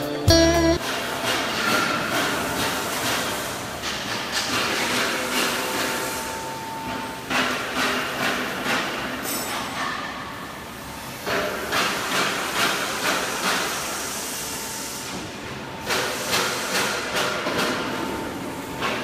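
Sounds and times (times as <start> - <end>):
roll forming machine hissing: 2.1 - 9.5, 11.1 - 19.0.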